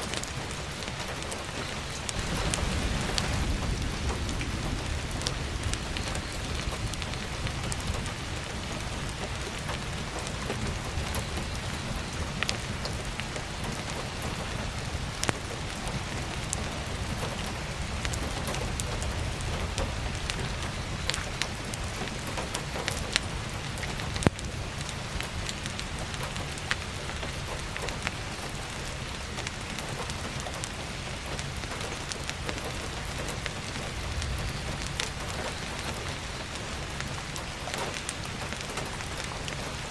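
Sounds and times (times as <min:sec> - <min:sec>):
firewood popping and crackling: 0:00.0 - 0:39.9
heavy rain on a skylight: 0:00.0 - 0:39.9.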